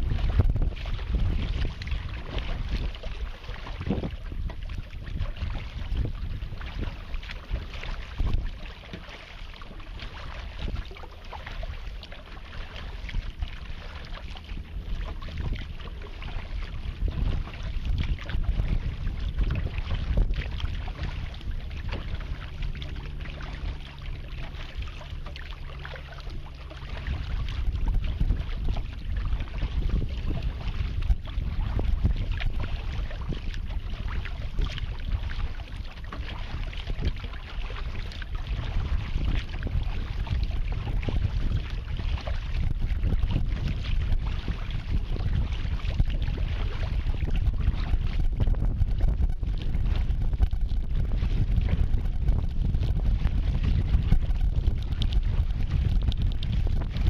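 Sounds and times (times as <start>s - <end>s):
water splashing against kayak: 0.0s - 57.0s
wind buffeting microphone: 0.0s - 57.0s.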